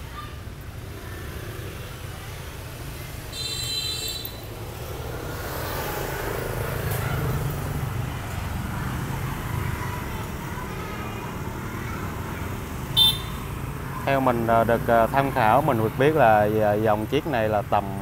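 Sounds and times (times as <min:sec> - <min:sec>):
street traffic hum: 0:00.0 - 0:18.0.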